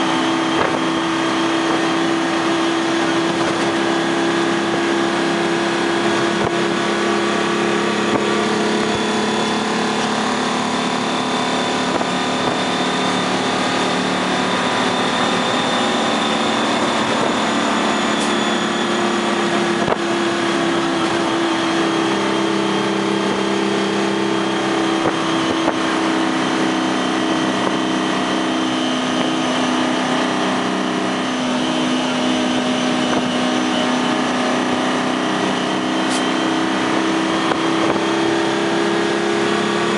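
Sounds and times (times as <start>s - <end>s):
diesel engine running in cab: 0.0s - 39.9s
road and wind noise: 0.0s - 39.9s.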